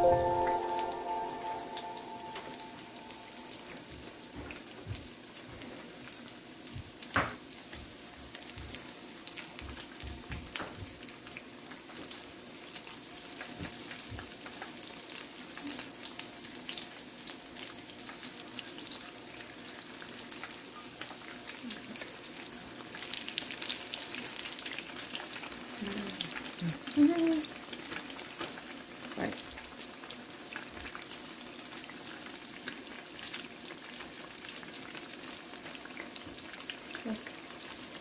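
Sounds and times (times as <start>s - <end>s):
eggplant slices deep-frying in oil: 3.4s - 38.0s.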